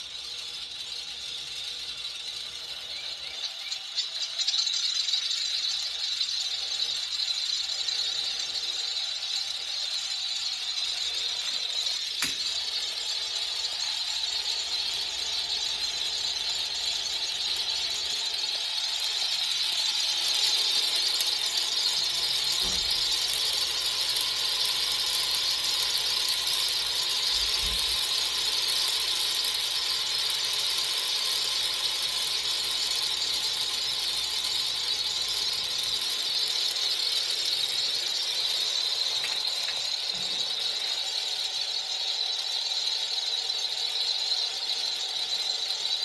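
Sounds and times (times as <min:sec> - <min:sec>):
high-pitched motor whirr: 0:00.0 - 0:46.0.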